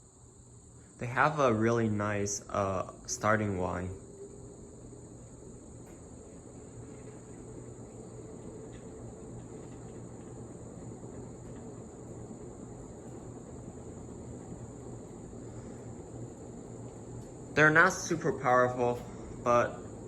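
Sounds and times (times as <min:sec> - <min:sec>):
ceiling fans running: 0:00.0 - 0:20.0.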